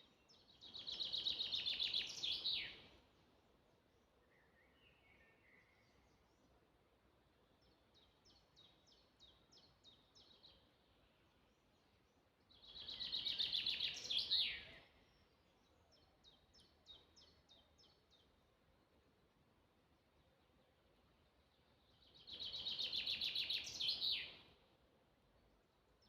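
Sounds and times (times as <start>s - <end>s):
faint steady hiss: 0.0s - 26.0s
songbirds singing: 0.0s - 26.0s.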